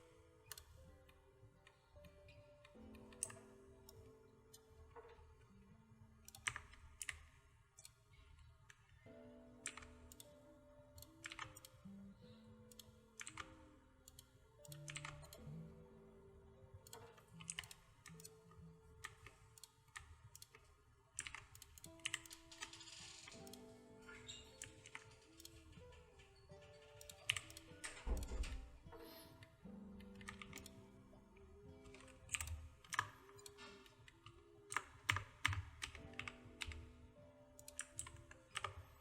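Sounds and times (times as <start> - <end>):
computer keyboard typing: 0.0 - 5.5, 6.2 - 39.0
soft background music: 0.0 - 39.0
mouse clicking: 0.4 - 0.8, 1.6 - 5.1, 6.2 - 10.4, 11.0 - 15.8, 16.8 - 36.9, 37.6 - 39.0.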